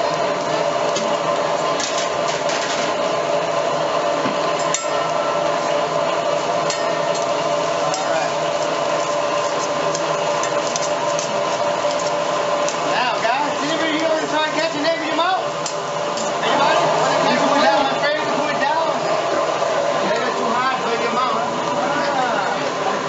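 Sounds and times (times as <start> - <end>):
food sizzling: 0.0 - 23.0
restaurant noise: 0.0 - 23.0.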